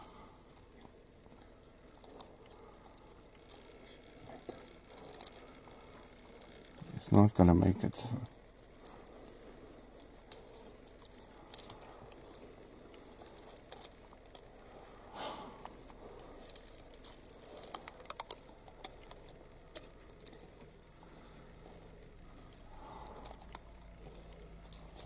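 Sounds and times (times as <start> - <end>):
animal chewing quills and bone: 0.0 - 25.0.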